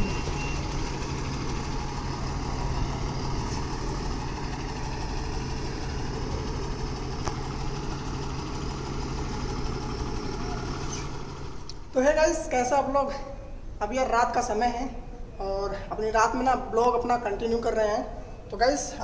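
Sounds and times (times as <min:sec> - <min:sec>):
diesel truck engine idling: 0:00.0 - 0:18.6.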